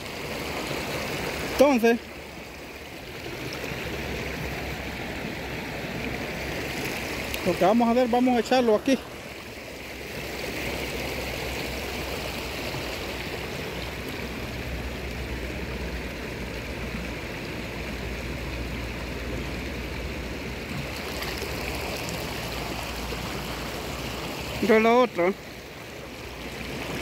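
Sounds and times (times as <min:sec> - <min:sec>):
river water flowing over stones: 0:00.0 - 0:27.0.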